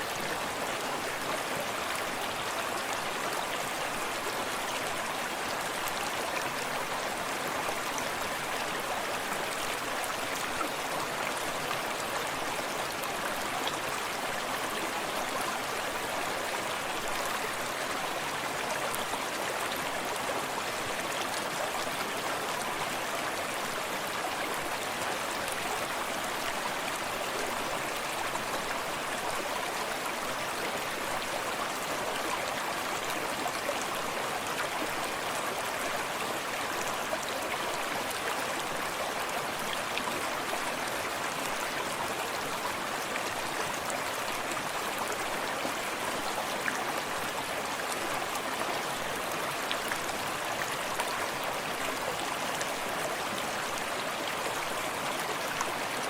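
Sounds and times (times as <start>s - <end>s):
distant small waterfall: 0.0s - 56.0s
stream rushing over stones: 0.0s - 56.0s.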